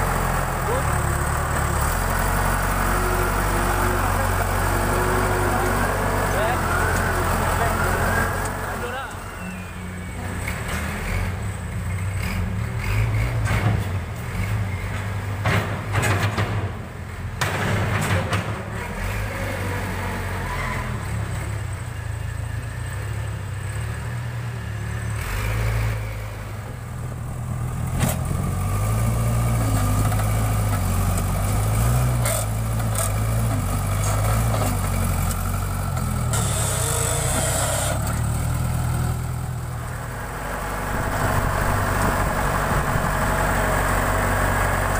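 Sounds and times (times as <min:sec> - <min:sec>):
backhoe diesel engine revving: 0:00.0 - 0:44.9.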